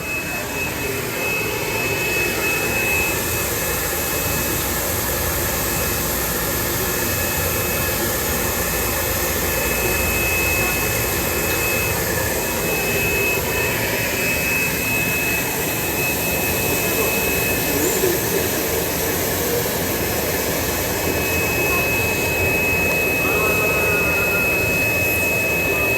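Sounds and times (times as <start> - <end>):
thin high whine: 0.0 - 6.0, 6.8 - 25.9
labeling machine whir and hiss: 0.0 - 25.9.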